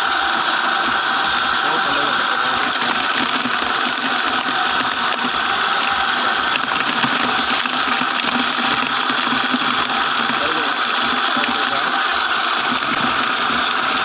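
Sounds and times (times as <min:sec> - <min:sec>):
electric chopper motor running: 0:00.0 - 0:14.0.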